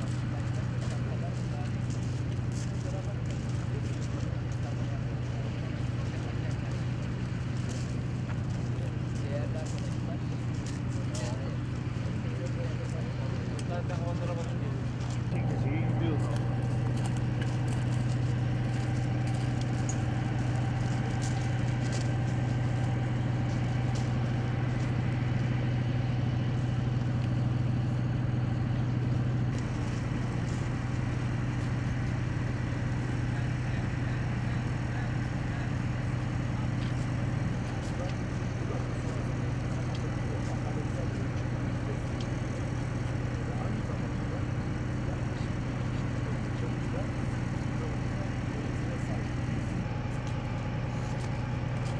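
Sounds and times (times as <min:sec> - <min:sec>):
engine idling hum: 0:00.0 - 0:51.9.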